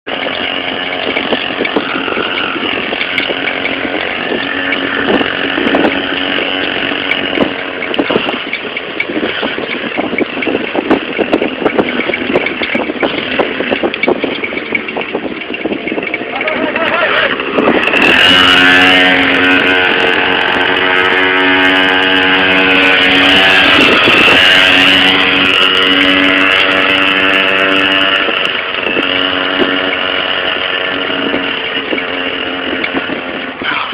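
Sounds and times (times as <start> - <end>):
small motorbike engine running: 0.1 - 33.9
wind buffeting: 0.1 - 33.9.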